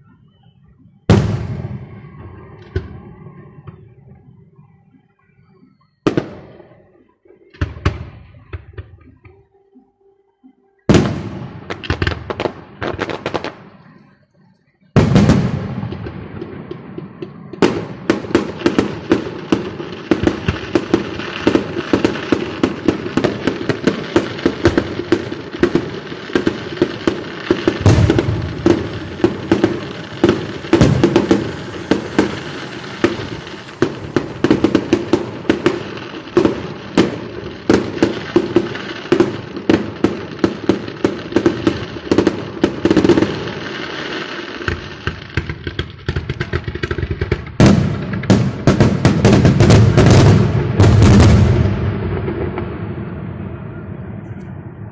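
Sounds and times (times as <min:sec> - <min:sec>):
fireworks bangs and crackles: 0:00.0 - 0:09.8, 0:10.8 - 0:54.9.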